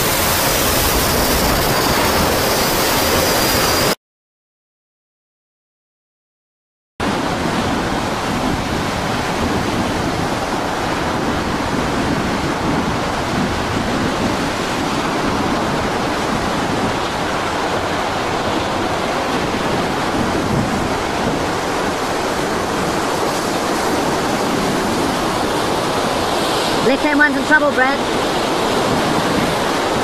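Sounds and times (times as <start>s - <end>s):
rough sea: 0.0s - 4.0s, 7.0s - 30.0s
storm wind: 0.0s - 4.0s, 7.0s - 30.0s.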